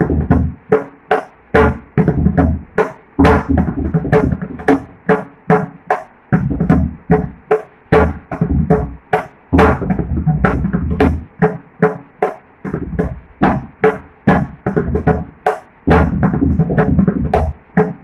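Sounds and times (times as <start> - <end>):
hand drum played fast: 0.0 - 18.0.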